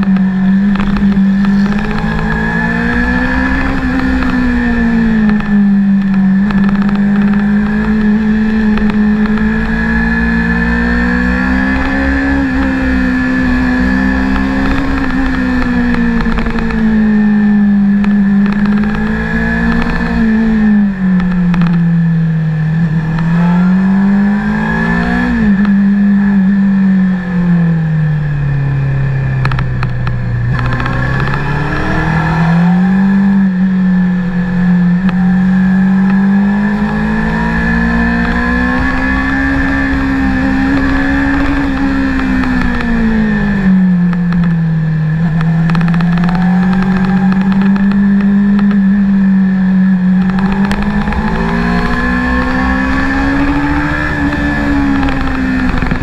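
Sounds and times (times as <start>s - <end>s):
motorcycle engine revving: 0.0s - 56.0s
wind rumble on microphone: 0.0s - 56.0s.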